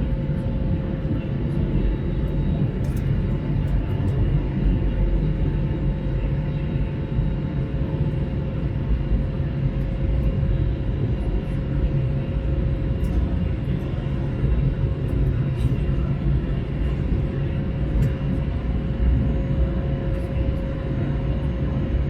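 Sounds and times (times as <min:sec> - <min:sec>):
airplane engines and airflow rumble: 0:00.0 - 0:22.0.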